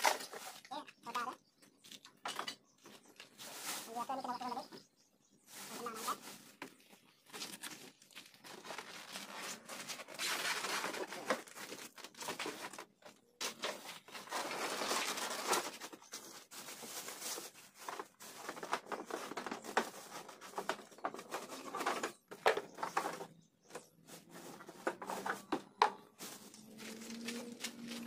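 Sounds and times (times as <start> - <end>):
cardboard and plastic rustling: 0.0 - 28.0.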